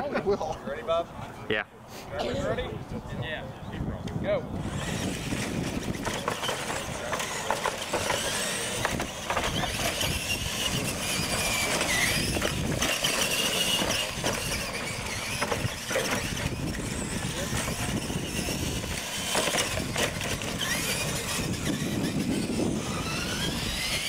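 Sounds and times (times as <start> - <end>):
toy truck motors whining: 4.5 - 24.0.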